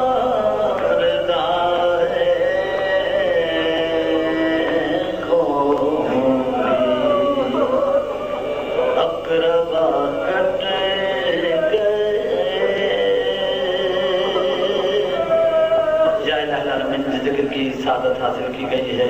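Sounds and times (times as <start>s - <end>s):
person chanting elegy: 0.0s - 19.0s.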